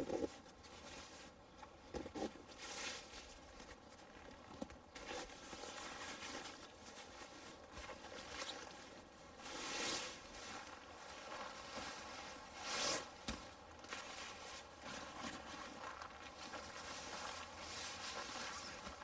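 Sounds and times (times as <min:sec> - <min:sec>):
stuff sack rustling: 0:02.0 - 0:19.0.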